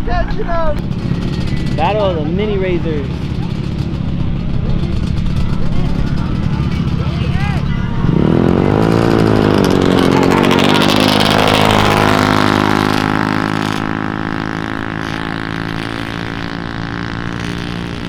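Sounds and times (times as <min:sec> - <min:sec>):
small vehicle engines revving: 0:00.0 - 0:18.0.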